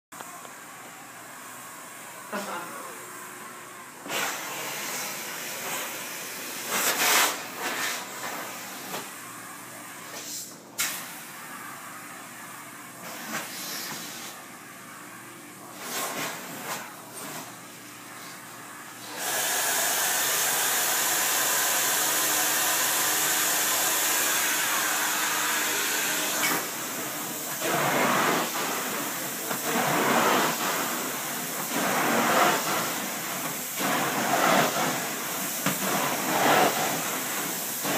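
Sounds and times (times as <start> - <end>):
extraction vacuum hissing: 4.0 - 15.0, 18.1 - 37.9.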